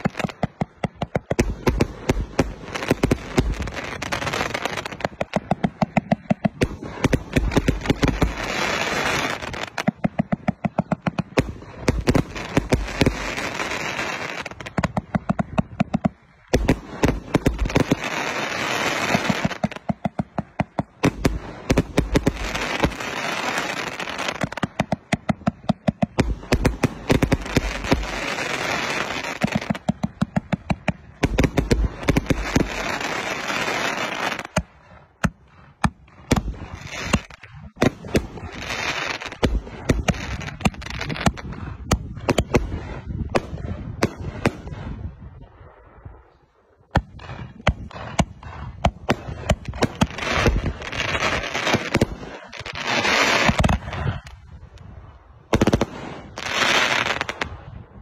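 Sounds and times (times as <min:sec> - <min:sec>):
fireworks crackling hiss: 0:00.0 - 0:45.2, 0:46.2 - 0:58.0
fireworks launches and bursts: 0:00.0 - 0:58.0.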